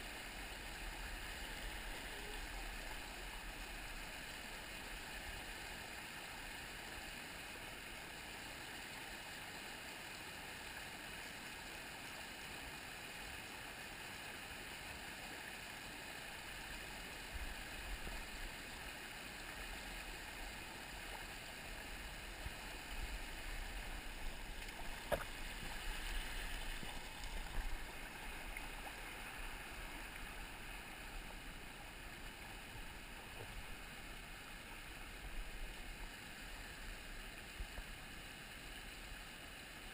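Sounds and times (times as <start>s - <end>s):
water running over rocks: 0.0s - 39.9s.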